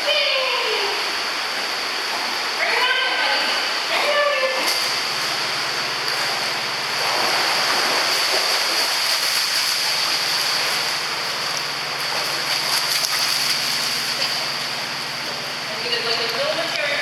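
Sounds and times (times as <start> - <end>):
splashing water: 0.0 - 17.0.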